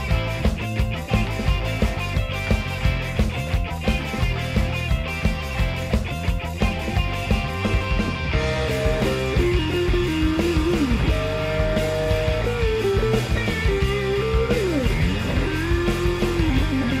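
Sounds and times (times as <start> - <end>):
guitar-led band music: 0.0 - 17.0.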